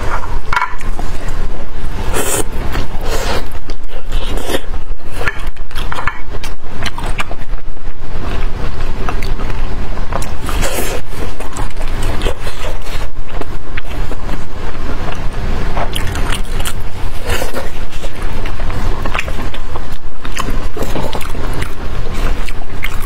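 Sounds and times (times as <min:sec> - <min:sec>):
wet chewing and smacking: 0:02.2 - 0:23.0.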